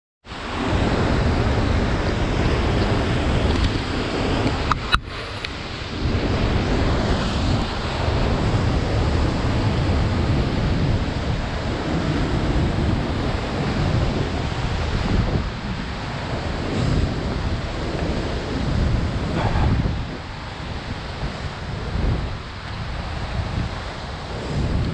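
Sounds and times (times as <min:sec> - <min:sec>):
waterfall roaring: 0:00.3 - 0:24.9.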